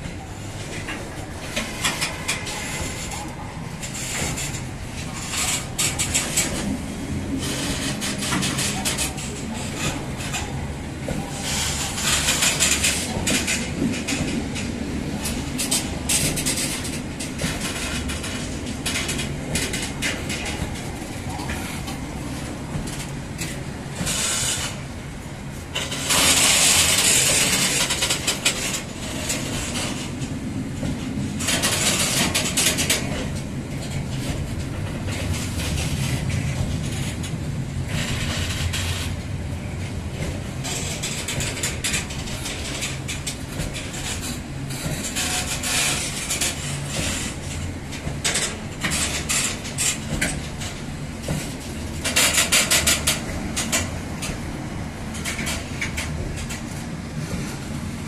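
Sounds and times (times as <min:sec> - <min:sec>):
train wheels rumbling on rails: 0:00.0 - 0:58.0
wheels clicking over rail joints: 0:00.0 - 0:58.0.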